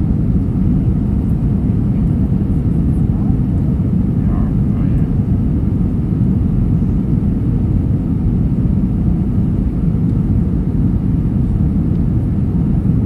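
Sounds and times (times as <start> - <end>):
airliner cabin roar: 0.0 - 13.0.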